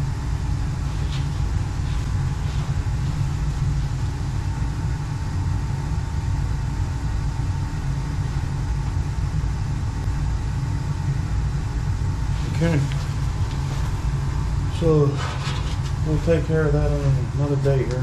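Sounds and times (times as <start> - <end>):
steam boiler rumbling: 0.0 - 18.0.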